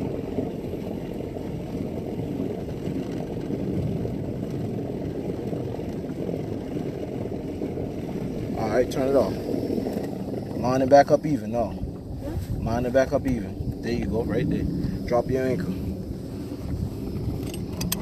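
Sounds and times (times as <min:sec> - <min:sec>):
boat trolling motor rushing: 0:00.0 - 0:18.0.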